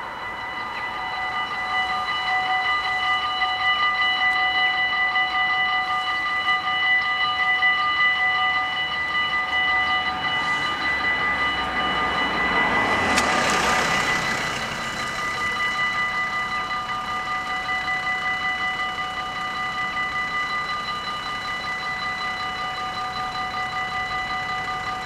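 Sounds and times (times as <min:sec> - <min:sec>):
level crossing warning bells: 0:00.0 - 0:25.0
van engine and tyre noise: 0:00.0 - 0:25.0.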